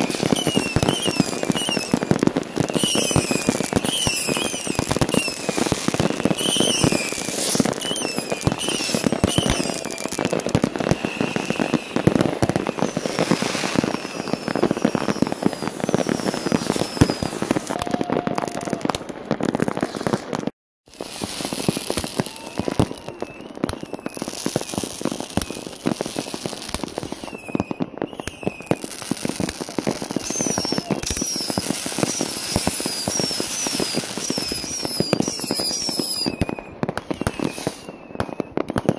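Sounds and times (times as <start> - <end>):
fireworks crackling and banging: 0.0 - 38.9
fireworks hissing: 0.0 - 38.9
whistling fireworks: 0.0 - 38.9.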